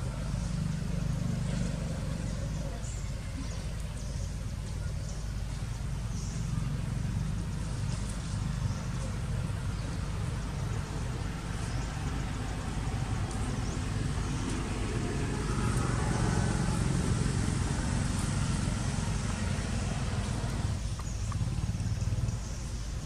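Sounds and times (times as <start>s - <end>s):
motor vehicle rumbling: 0.0s - 23.0s.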